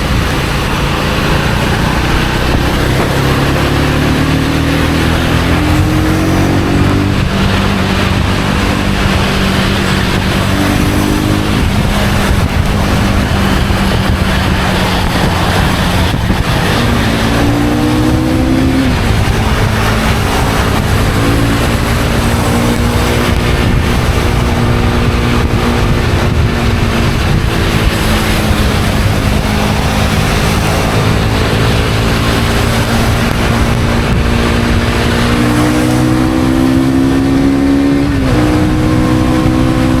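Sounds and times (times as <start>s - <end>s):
motorcycle engine accelerating: 0.0s - 40.0s
rushing wind noise: 0.0s - 40.0s.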